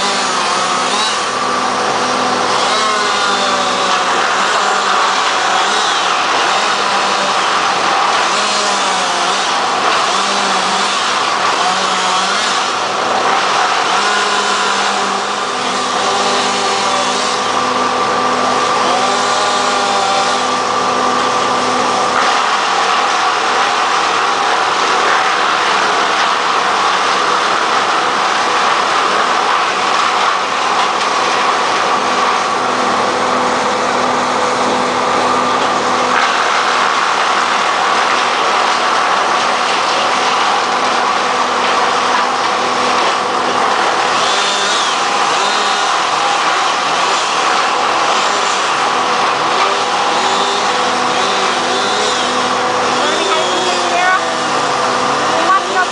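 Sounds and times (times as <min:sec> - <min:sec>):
machinery engines running: 0:00.0 - 0:55.9.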